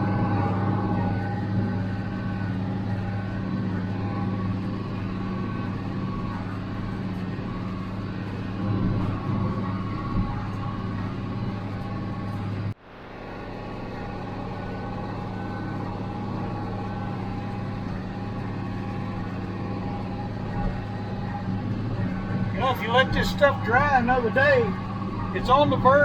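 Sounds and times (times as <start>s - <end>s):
diesel tractor engine under load: 0.0s - 26.0s
square baler running: 0.0s - 26.0s.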